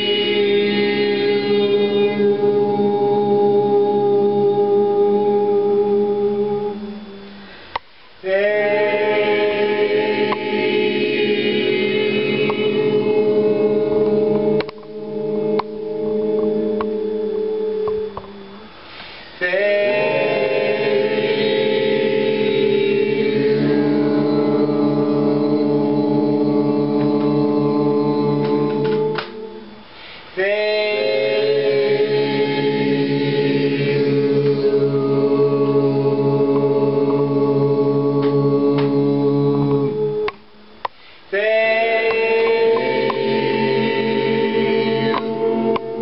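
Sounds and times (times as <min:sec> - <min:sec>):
voices chanting a held syllable: 0:00.0 - 0:07.5, 0:08.2 - 0:40.7, 0:41.3 - 0:46.0.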